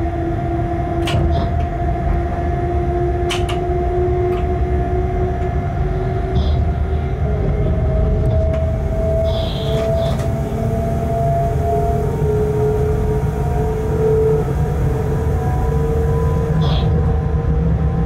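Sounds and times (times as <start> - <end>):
locomotive rumble with drive whine: 0.0 - 18.0.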